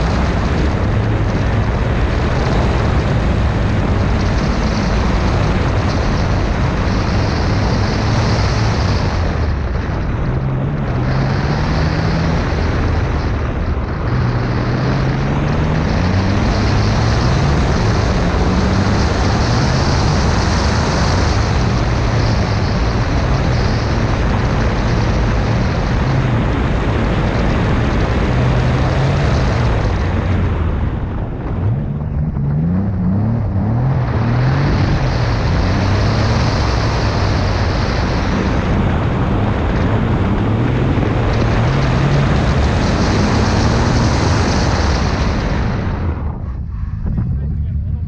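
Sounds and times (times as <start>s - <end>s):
car engine running hard: 0.0s - 48.0s
loud rushing noise: 0.0s - 48.0s.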